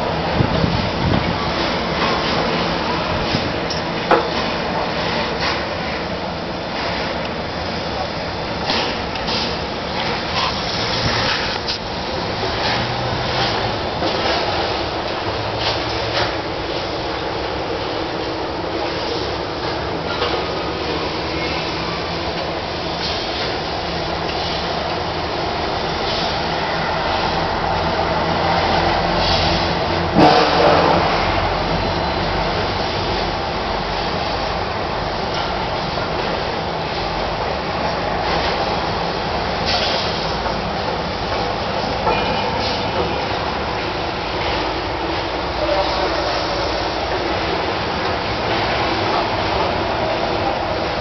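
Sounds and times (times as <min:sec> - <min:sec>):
rushing outdoor background noise: 0:00.0 - 0:51.0
train rumble inside carriage: 0:00.0 - 0:51.0.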